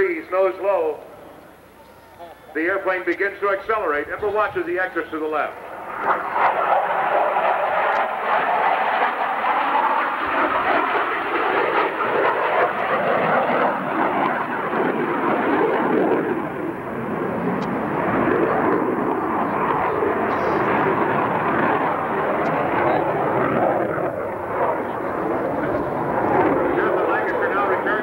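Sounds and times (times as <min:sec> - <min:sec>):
fighter jet flying past: 0:02.6 - 0:28.0.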